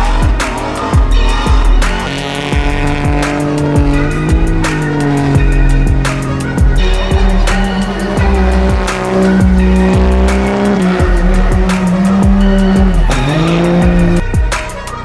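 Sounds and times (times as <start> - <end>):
music with beat and sliding bass: 0.0 - 15.0
tyres squealing: 0.0 - 15.0
vehicle engine at high revs: 0.0 - 15.0.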